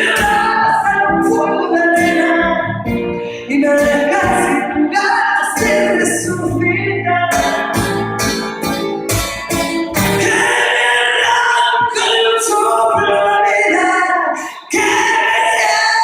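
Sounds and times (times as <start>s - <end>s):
person singing: 0.0s - 8.5s, 10.0s - 16.0s
acoustic guitar: 0.0s - 16.0s.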